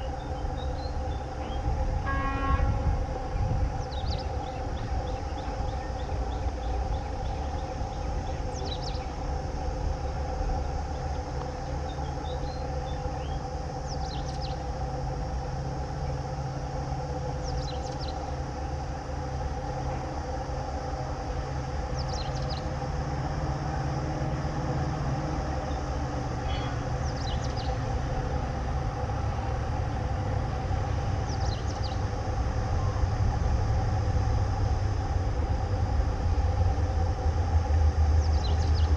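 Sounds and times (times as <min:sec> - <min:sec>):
diesel locomotive engine rumbling: 0:00.0 - 0:38.9.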